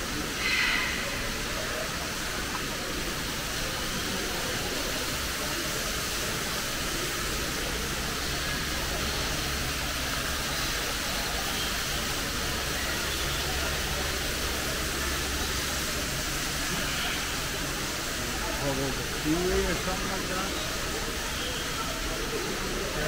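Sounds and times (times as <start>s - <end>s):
steady hissing noise: 0.0s - 23.0s.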